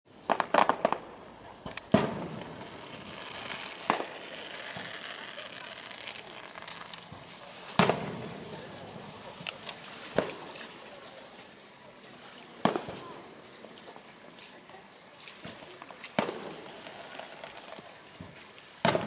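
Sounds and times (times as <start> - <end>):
fireworks crackling pops: 0.1 - 19.0
fireworks booms with rumble: 0.2 - 11.1, 12.5 - 14.0, 15.3 - 19.0.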